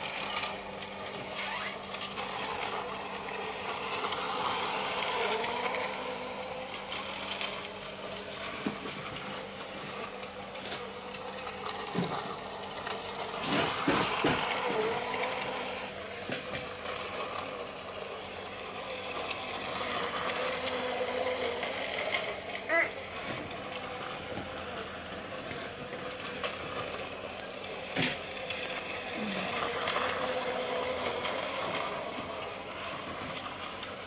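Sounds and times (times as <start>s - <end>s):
toy train motor whirring: 0.0s - 34.0s.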